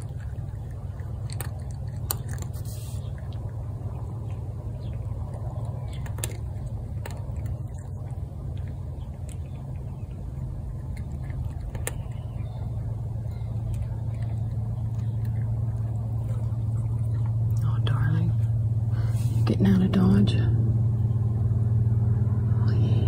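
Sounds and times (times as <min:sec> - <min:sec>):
cat crunching dry kibble: 0:00.0 - 0:18.8
low engine-like hum: 0:00.0 - 0:23.0.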